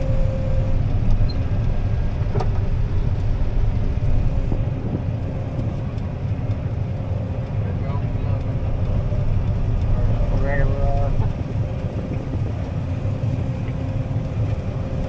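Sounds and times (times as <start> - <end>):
vehicle driving rumble: 0.0 - 15.0.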